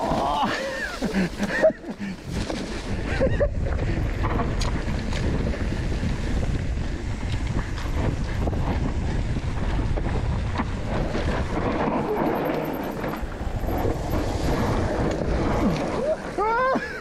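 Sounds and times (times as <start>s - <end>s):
bike tyres on dirt trail: 0.0s - 17.0s
wind buffeting microphone: 0.0s - 17.0s
bike clicks and rattles: 1.0s - 17.0s.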